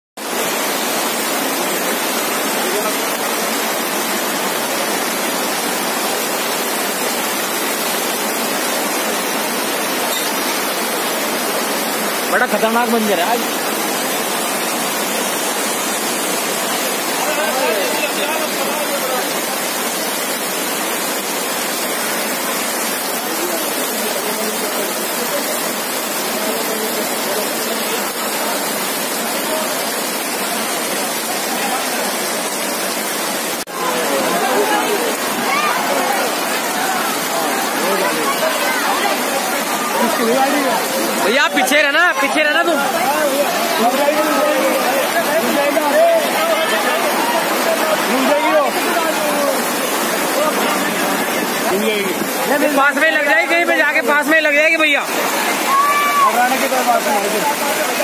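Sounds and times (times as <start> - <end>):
floodwater rushing: 0.2 - 58.0.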